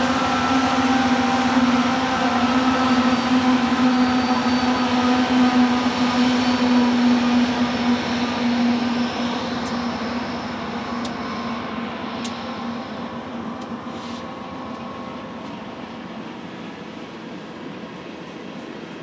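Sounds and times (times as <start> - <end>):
diesel locomotives passing: 0.0 - 19.0.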